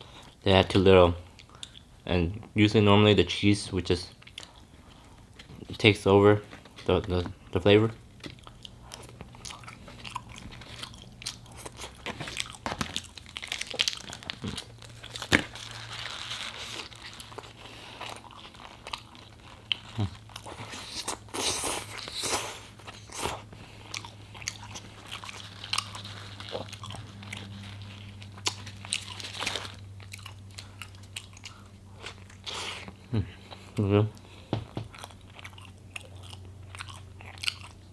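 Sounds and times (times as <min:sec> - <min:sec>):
chewing and crunching food: 0:00.0 - 0:02.0, 0:03.9 - 0:37.9
steady low hum: 0:00.0 - 0:37.9.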